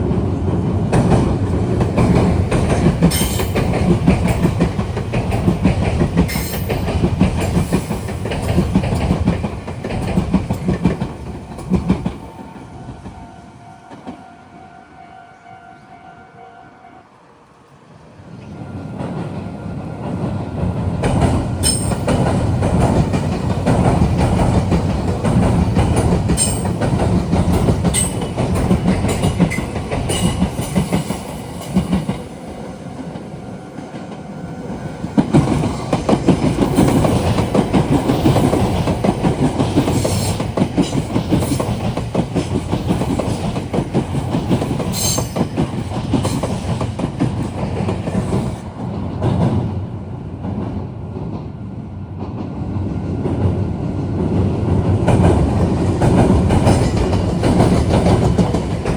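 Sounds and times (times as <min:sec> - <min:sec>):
electric train wheels clattering: 0:00.0 - 0:13.2, 0:18.3 - 0:58.9.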